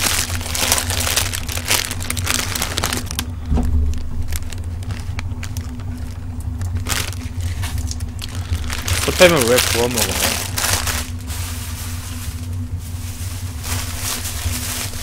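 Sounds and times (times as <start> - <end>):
plastic packets crinkling: 0.0 - 15.0
steady low hum: 0.0 - 15.0.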